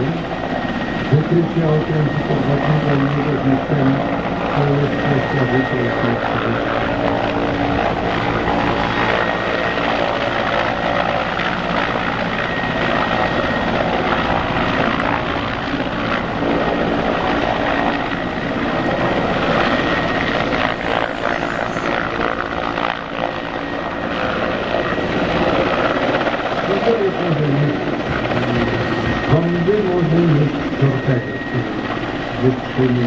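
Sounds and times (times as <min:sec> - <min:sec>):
helicopter rotor noise: 0:00.0 - 0:33.0
high engine whine: 0:00.0 - 0:33.0.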